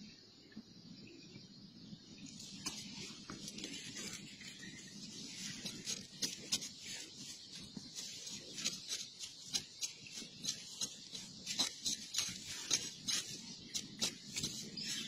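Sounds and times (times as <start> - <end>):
rustling in leaf litter: 2.2 - 15.0.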